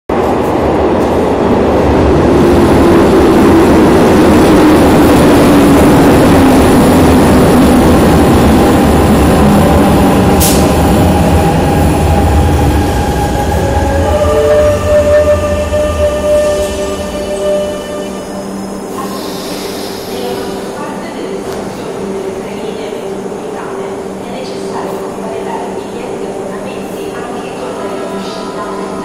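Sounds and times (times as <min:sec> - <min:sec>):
metro train wheel and motor noise: 0:00.1 - 0:29.0.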